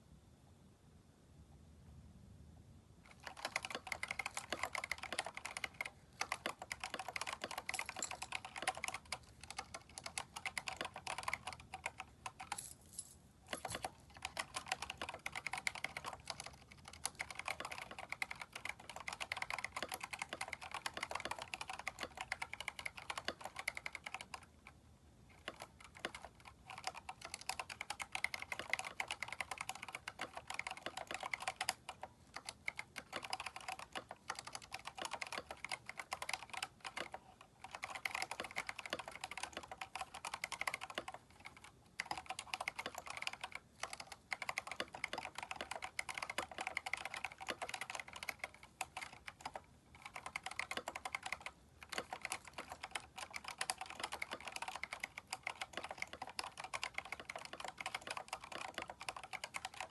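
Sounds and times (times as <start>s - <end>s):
mechanical keyboard typing: 3.1s - 59.9s.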